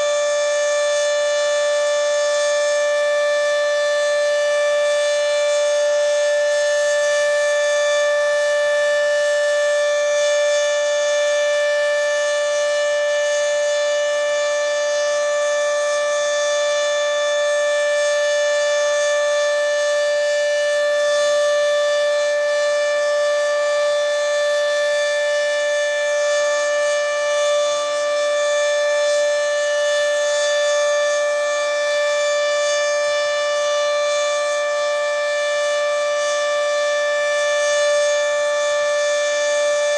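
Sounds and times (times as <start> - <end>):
dual-tone tornado siren: 0.0 - 39.9.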